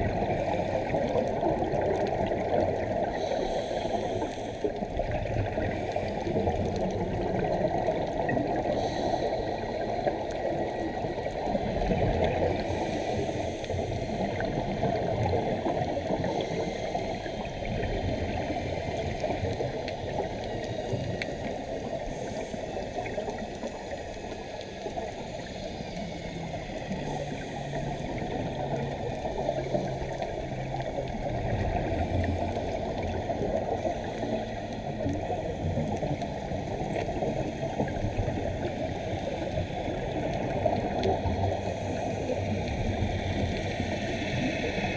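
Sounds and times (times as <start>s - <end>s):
muffled underwater rush: 0.0s - 44.9s
scuba exhaust bubbles gurgling: 0.0s - 44.9s.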